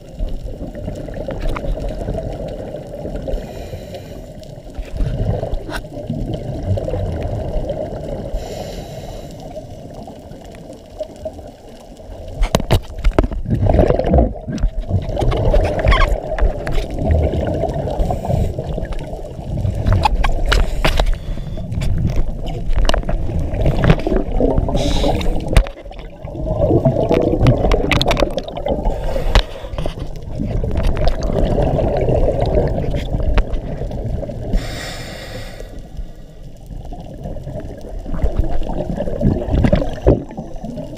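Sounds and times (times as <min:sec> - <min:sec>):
underwater bubbles gurgling: 0:00.0 - 0:40.9.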